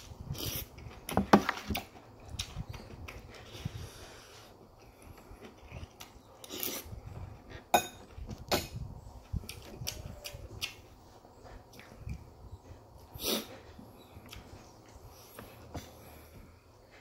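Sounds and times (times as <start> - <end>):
chewing food: 0.3 - 8.5, 9.1 - 17.0.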